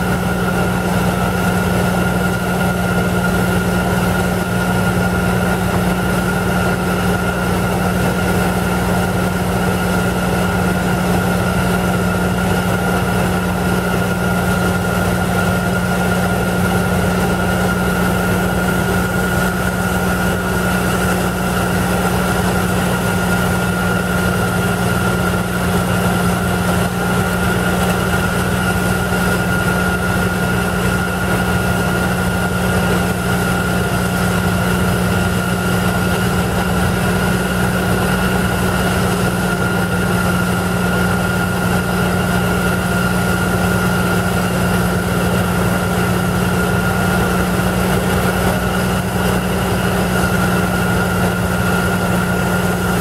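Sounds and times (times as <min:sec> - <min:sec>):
pneumatic rock drills running: 0:00.0 - 0:53.0.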